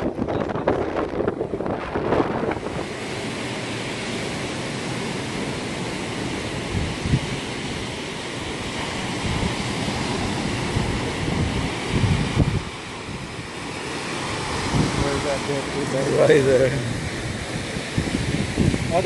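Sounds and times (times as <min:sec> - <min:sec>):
sea surf breaking: 0:00.0 - 0:19.0
wind buffeting microphone: 0:00.0 - 0:19.0.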